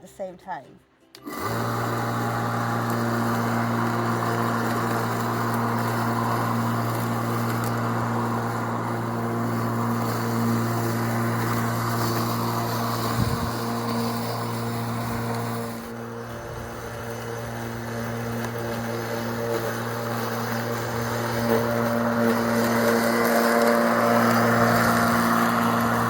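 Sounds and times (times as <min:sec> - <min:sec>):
electric lawnmower humming: 0:01.1 - 0:26.0.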